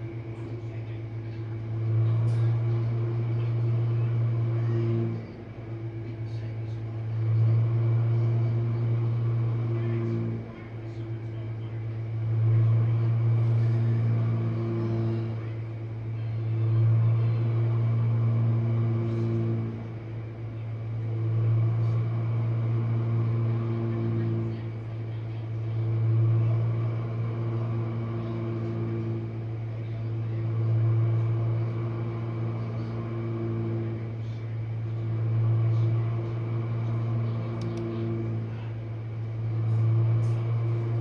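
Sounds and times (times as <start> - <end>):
dishwasher pump motor hum: 0.0 - 41.0.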